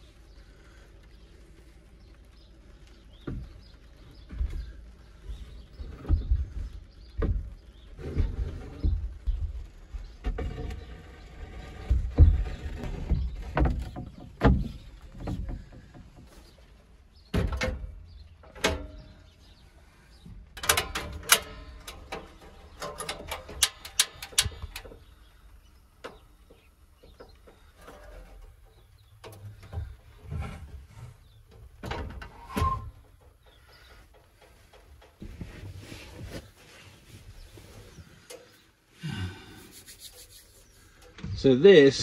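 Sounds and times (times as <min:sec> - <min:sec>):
handling thumps and clatter: 0:03.1 - 0:19.6, 0:20.2 - 0:38.8.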